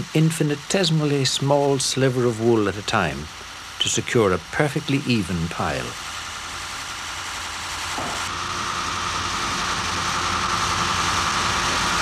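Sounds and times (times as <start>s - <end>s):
carpet cropping machine running: 0.0s - 12.0s
high whine: 0.0s - 12.0s.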